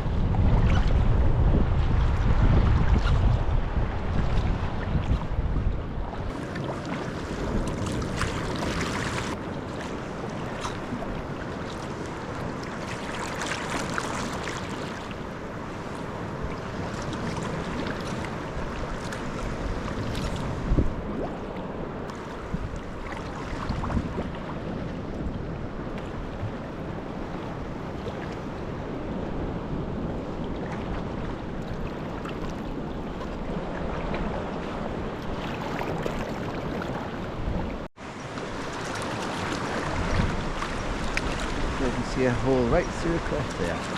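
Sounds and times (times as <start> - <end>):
water splashing around kayak: 0.0 - 43.9
wind buffeting microphone: 0.0 - 43.9.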